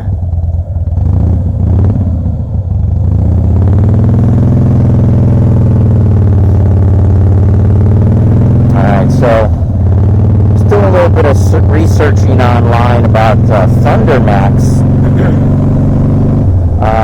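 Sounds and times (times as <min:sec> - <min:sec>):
motorcycle engine idling rough: 0:00.0 - 0:17.0.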